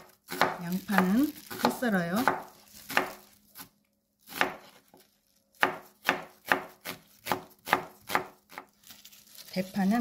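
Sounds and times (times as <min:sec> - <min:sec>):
knife slicing onion on board: 0:00.0 - 0:05.0, 0:05.6 - 0:08.7.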